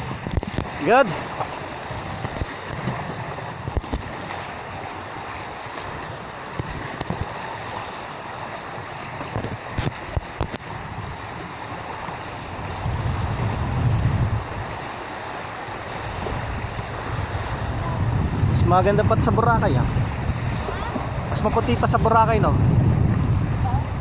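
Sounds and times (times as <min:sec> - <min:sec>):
wind across microphone: 0:00.0 - 0:24.0.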